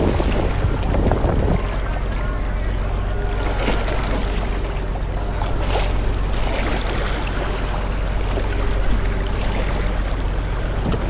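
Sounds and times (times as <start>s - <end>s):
faint crowd voices: 0.0s - 11.0s
surf washing: 0.0s - 11.0s
wind rumbling on microphone: 0.0s - 11.0s.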